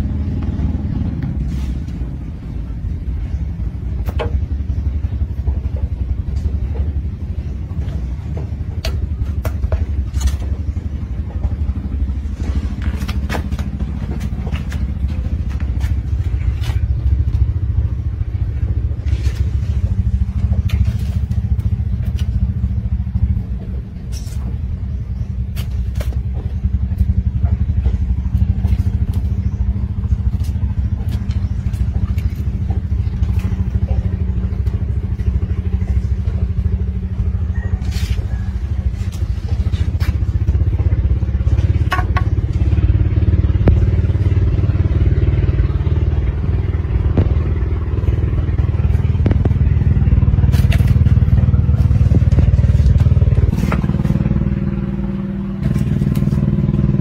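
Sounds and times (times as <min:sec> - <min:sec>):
motor rumbling: 0:00.0 - 0:57.0.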